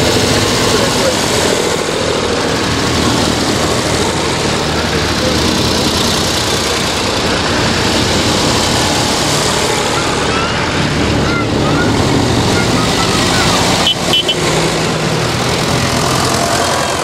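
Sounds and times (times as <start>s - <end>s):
tractor engines driving past: 0.0s - 17.0s.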